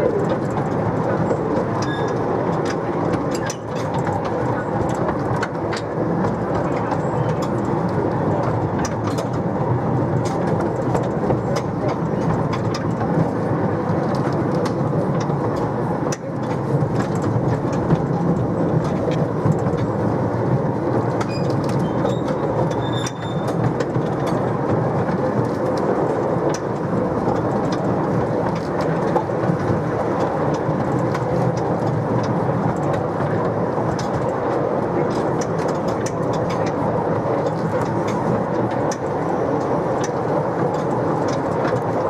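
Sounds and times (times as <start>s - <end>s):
miniature train rumble: 0.0s - 42.0s
wheels clicking over rail joints: 0.0s - 42.0s.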